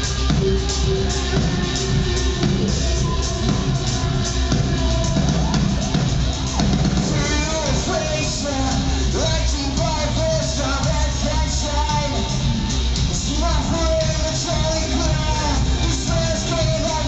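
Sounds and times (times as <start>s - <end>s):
drum kit: 0.0s - 17.0s
man singing: 0.0s - 17.0s.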